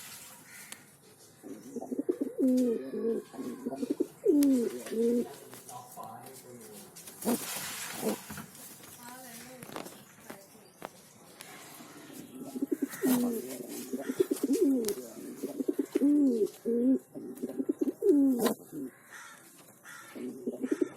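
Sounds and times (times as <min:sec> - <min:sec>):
birds calling: 0:00.4 - 0:20.9.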